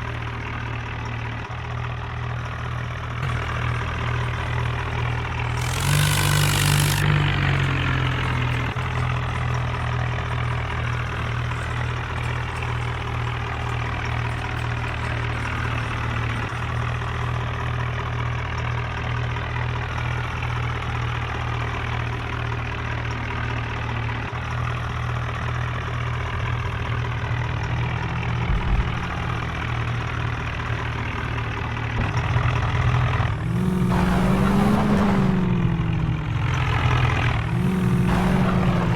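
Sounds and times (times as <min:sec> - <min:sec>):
tractor diesel engine idling: 0:00.0 - 0:33.5, 0:35.6 - 0:38.9.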